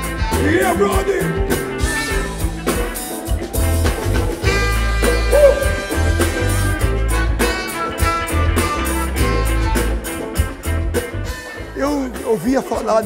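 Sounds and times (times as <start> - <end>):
pulsing bass line: 0.0 - 11.3
live funk band playing: 0.0 - 13.0.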